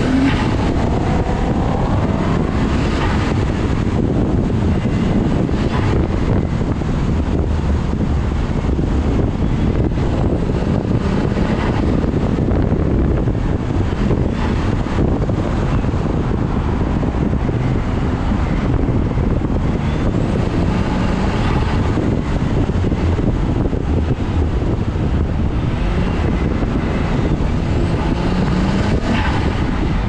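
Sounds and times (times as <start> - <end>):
car engine revving: 0.0 - 30.0
road and wind noise: 0.0 - 30.0.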